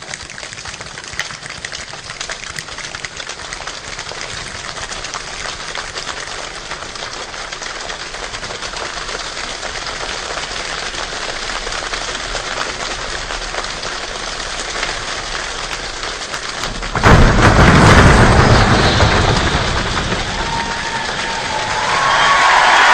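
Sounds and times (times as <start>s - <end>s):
body percussion imitating rain: 0.0s - 22.9s.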